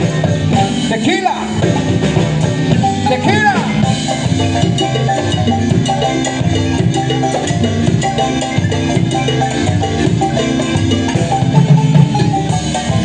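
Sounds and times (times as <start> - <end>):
drums and percussion: 0.0 - 13.0
marimba ensemble dance tune: 0.0 - 13.0.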